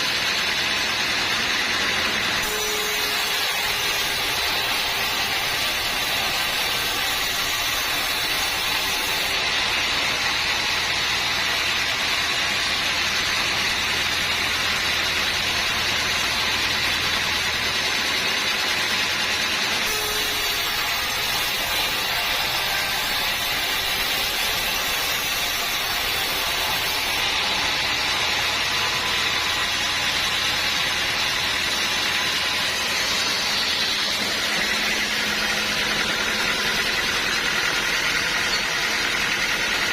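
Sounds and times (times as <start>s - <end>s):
sawmill machinery sawing logs: 0.0s - 39.9s.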